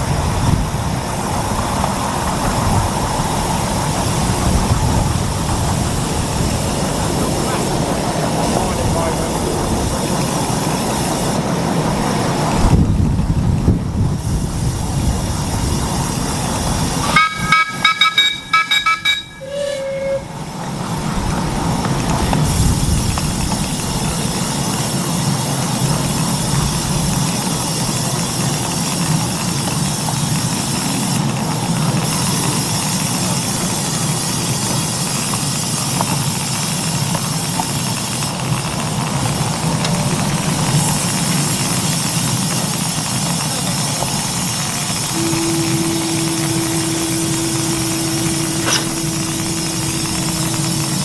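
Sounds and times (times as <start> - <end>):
miniature train rumbling on track: 0.0 - 51.0.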